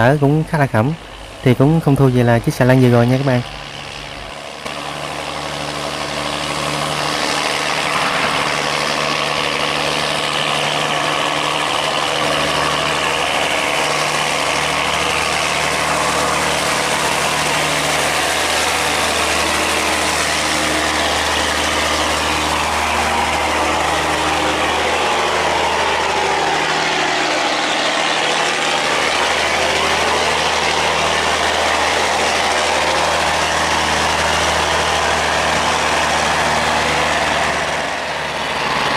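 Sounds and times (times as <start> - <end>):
barge diesel engine running: 0.0 - 38.9
broad rushing noise: 0.0 - 38.9.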